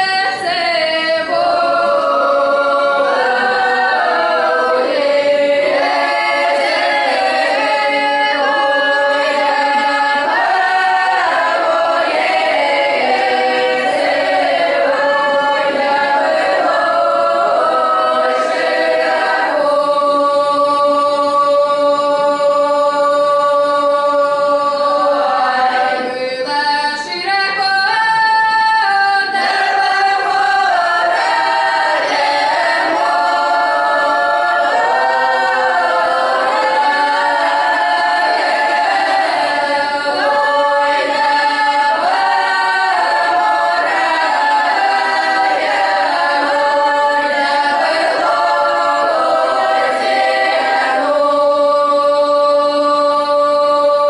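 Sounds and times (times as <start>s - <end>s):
children's choir singing a cappella: 0.0s - 54.0s.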